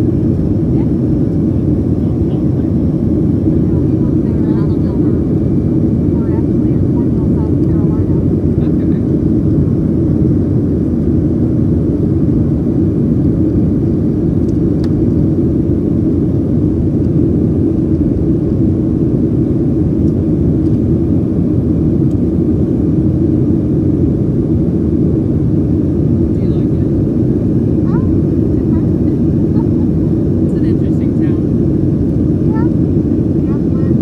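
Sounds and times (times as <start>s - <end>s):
jet engines rumbling in cabin: 0.0s - 34.0s.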